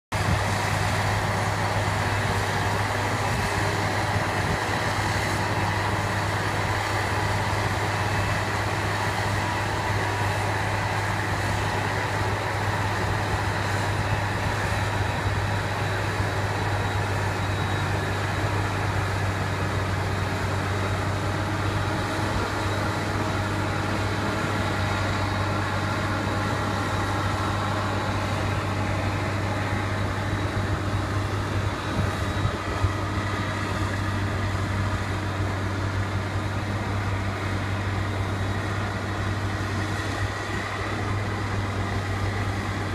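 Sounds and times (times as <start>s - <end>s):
forage harvester drone: 0.1s - 42.9s
high mechanical whine: 0.1s - 42.9s.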